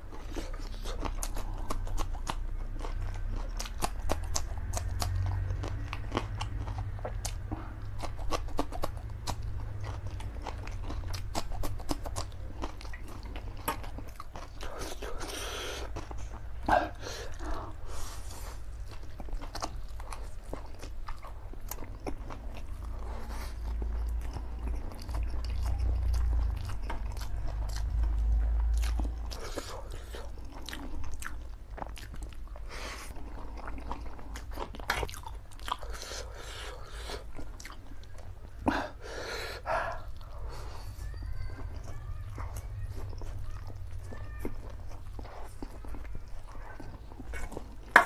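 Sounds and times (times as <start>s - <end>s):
wet chewing and mouth clicks: 0.0s - 48.0s.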